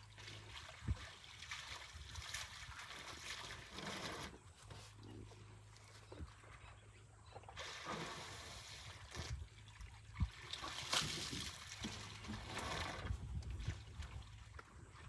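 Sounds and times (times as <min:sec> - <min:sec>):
elephant splashing and slurping water: 0:00.0 - 0:15.0.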